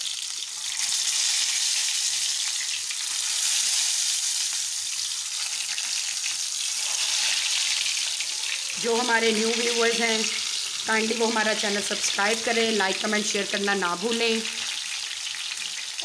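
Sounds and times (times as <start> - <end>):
hot oil sizzling and crackling: 0.0 - 16.0.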